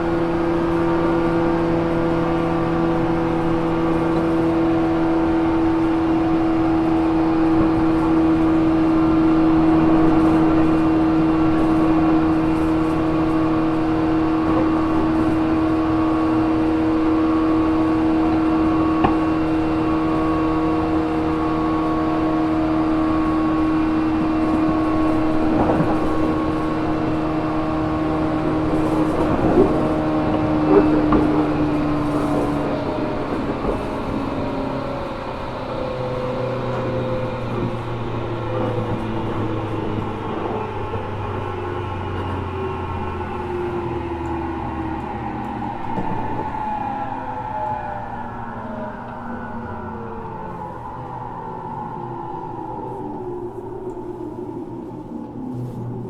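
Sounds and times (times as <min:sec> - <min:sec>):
electric train motor whine: 0:00.0 - 0:56.0.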